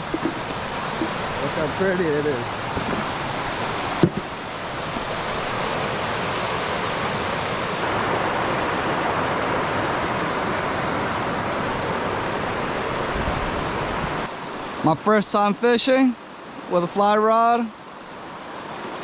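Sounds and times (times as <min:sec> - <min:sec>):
river water rushing over riffle: 0:00.0 - 0:19.0.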